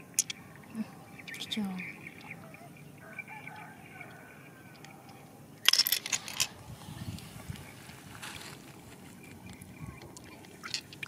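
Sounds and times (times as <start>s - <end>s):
distant birds calling: 0.0s - 11.0s.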